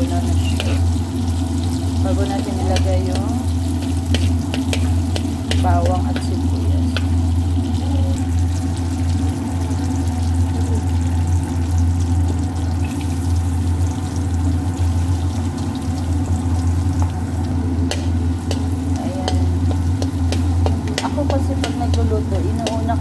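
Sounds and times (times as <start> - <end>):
butter sizzling in a frying pan: 0.0 - 23.0
steady low hum: 0.0 - 23.0.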